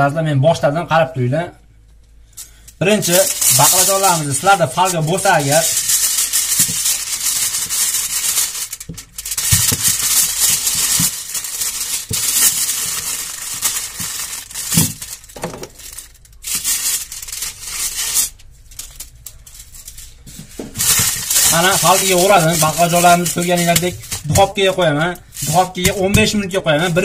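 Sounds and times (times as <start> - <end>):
aluminium foil crinkling: 2.3 - 27.0.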